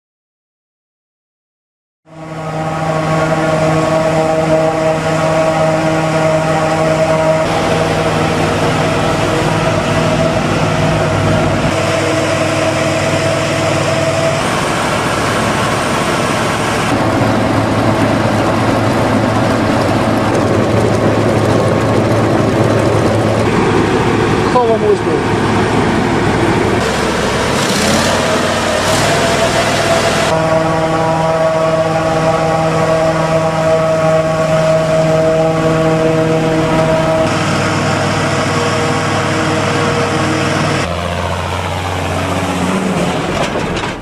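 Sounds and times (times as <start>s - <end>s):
harvester machine drone: 2.1s - 44.0s.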